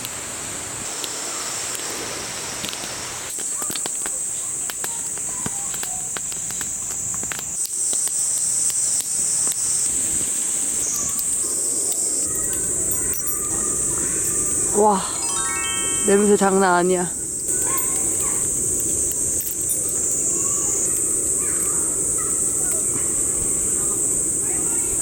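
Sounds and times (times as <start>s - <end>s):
low hiss of fire grilling: 0.0s - 25.0s
wood fire crackling: 0.8s - 14.8s, 16.2s - 24.3s
insects chirping: 0.8s - 25.0s.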